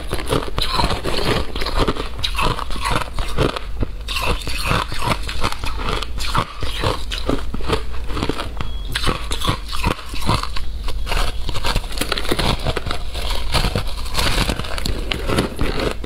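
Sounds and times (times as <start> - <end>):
crunching shaved ice: 0.0 - 16.0.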